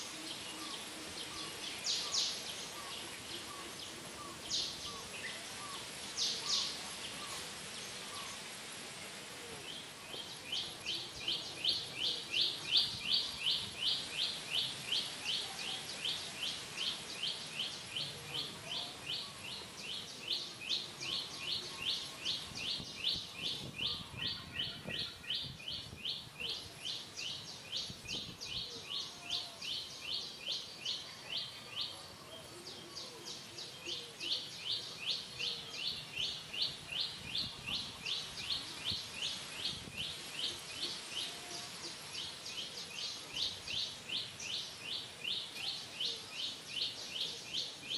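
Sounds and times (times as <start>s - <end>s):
faint outdoor background noise: 0.0s - 47.9s.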